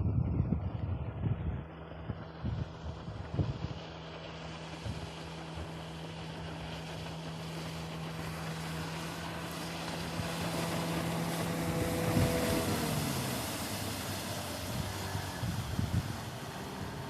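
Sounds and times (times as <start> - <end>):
rushing wind and water: 0.0 - 17.0
outboard motor running: 0.5 - 17.0.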